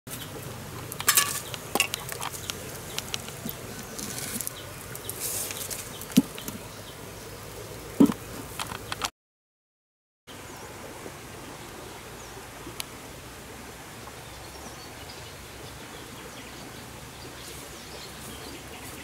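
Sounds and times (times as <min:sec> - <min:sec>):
steady outdoor hiss: 0:00.1 - 0:09.1, 0:10.3 - 0:19.0.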